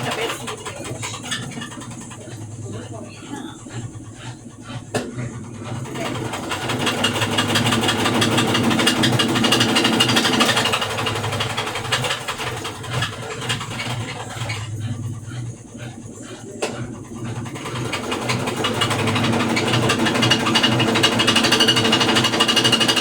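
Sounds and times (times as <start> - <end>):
fast rattle in drum: 0.0 - 23.0
washing machine spinning: 0.0 - 23.0.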